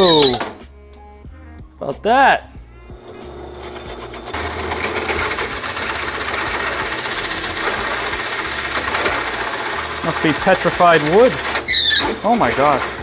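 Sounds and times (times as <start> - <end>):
drill press boring into wood: 0.0 - 0.5, 3.0 - 13.0.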